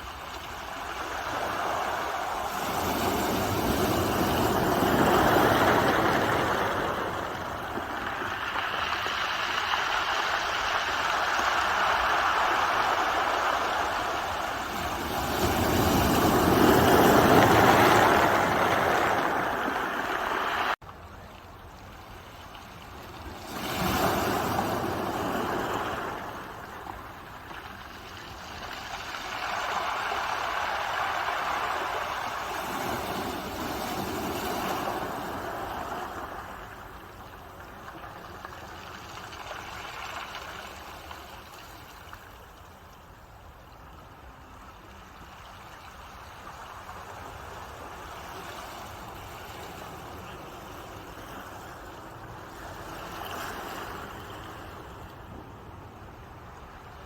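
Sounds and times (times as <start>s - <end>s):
ocean waves breaking ashore: 0.0s - 20.9s, 21.8s - 57.0s.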